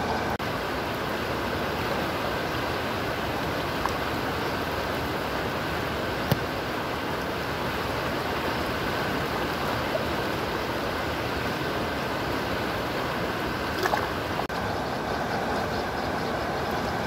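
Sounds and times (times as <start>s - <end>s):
river water rushing over rapids: 0.0s - 17.0s.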